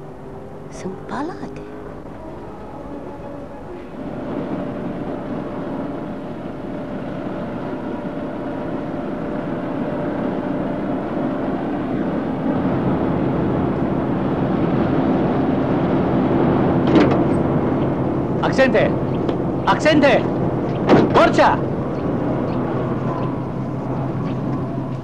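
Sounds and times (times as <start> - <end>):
combine harvester engines droning: 0.0 - 25.0.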